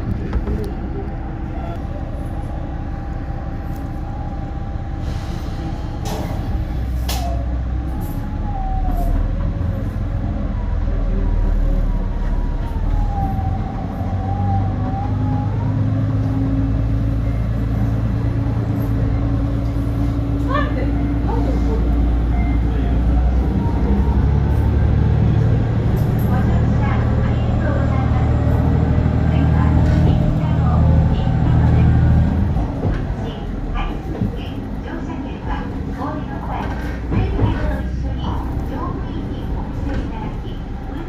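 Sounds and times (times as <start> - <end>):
diesel railcar engine running: 0.0 - 41.0.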